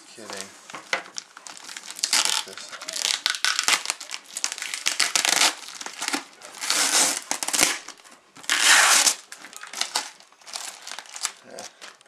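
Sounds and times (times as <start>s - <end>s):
packing material crinkling: 0.2s - 12.0s.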